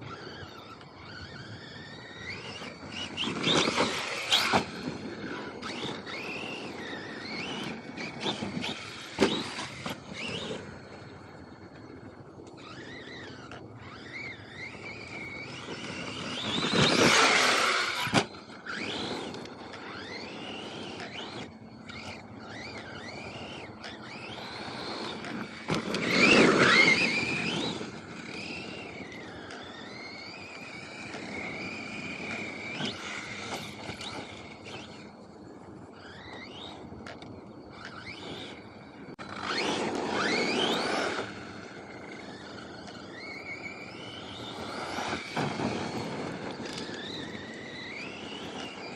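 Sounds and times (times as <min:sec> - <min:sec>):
rc car motor whine: 0:00.0 - 0:48.9
tyres rushing on dirt: 0:00.0 - 0:48.9.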